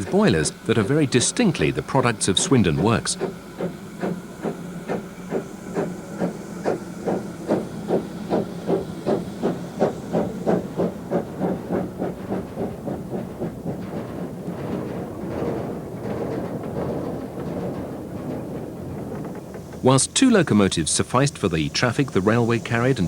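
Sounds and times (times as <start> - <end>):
steam hiss: 0.0 - 23.0
steam locomotive chuffing: 0.0 - 23.0.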